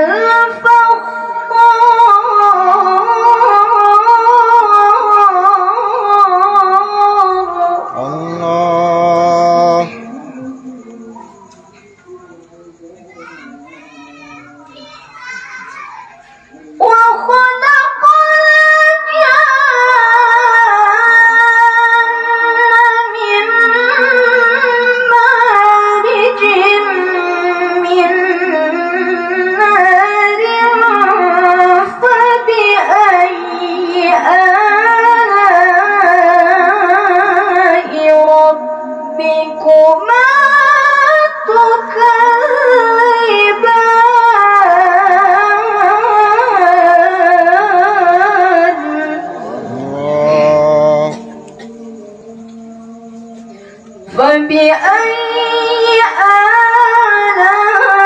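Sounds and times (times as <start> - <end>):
woman chanting into a microphone: 0.0 - 9.0, 9.6 - 13.6, 16.5 - 58.0.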